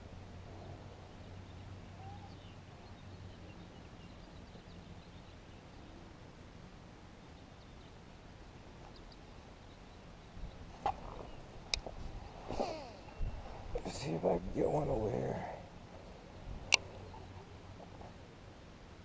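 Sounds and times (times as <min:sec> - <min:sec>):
faint birds chirping: 0:00.0 - 0:18.4
low steady hum: 0:00.0 - 0:19.0.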